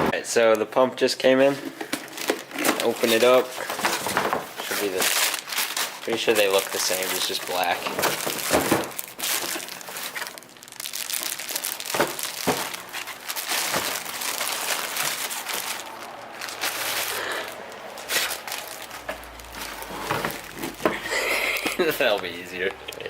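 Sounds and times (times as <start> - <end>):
packaging crinkling and rustling: 1.4 - 23.0.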